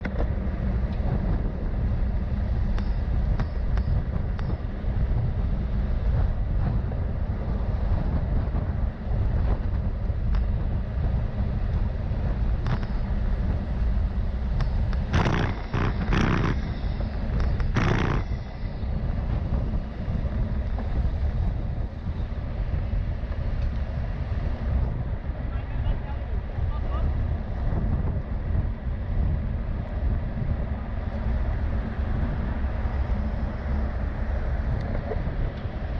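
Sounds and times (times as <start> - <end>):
low rumble of road traffic: 0.0 - 35.9.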